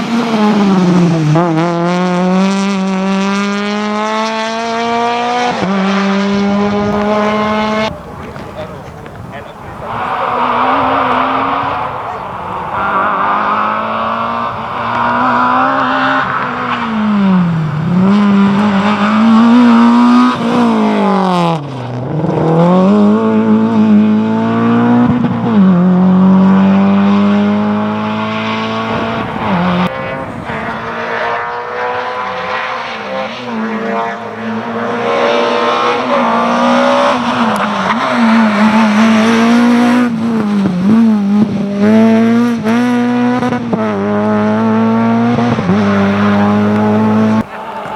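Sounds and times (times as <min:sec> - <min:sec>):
rally car engine revving: 0:00.0 - 0:47.9.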